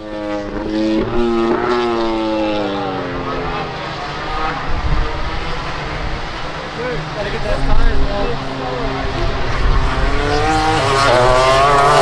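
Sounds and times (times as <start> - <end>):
racing motorcycle passing: 0.0 - 12.0.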